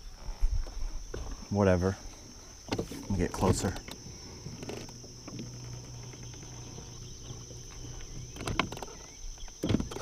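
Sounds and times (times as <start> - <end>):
insects buzzing: 0.0 - 10.0
low steady hum: 0.0 - 10.0.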